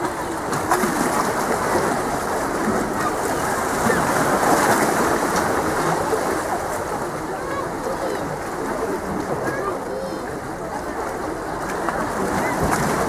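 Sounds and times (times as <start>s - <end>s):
sea water lapping against rocks: 0.0s - 13.0s.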